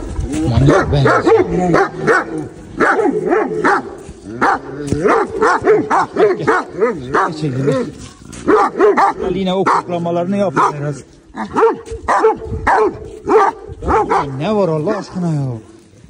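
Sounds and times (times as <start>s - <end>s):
large dogs barking: 0.4s - 15.9s.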